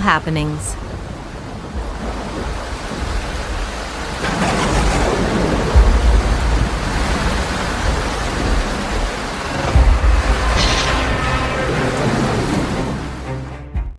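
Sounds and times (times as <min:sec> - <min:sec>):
heavy rain: 0:00.0 - 0:13.6
deep thunder rumble: 0:00.9 - 0:13.3.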